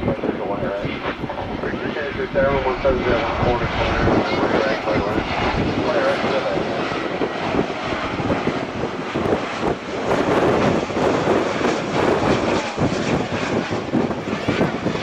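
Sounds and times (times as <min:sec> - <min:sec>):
jet engine rushing: 0:00.0 - 0:15.0.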